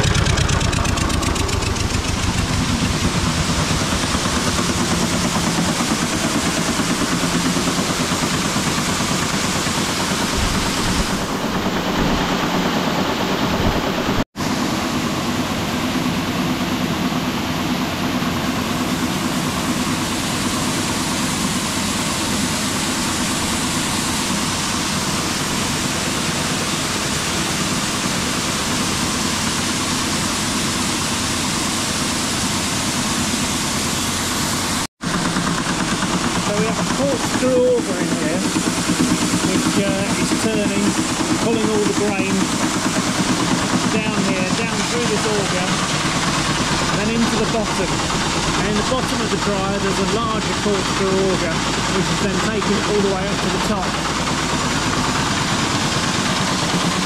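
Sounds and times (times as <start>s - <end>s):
diesel engine running steadily: 0.0s - 57.0s
grain-handling machinery: 0.0s - 57.0s.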